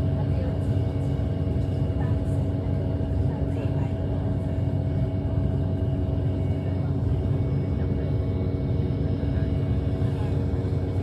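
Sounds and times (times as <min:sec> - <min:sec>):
airliner engines droning: 0:00.0 - 0:11.0
constant hum tones: 0:00.0 - 0:11.0.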